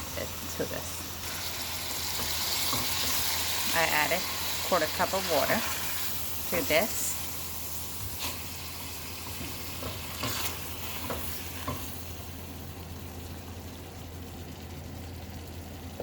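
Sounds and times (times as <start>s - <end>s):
food sizzling in a pan: 0.0s - 14.6s.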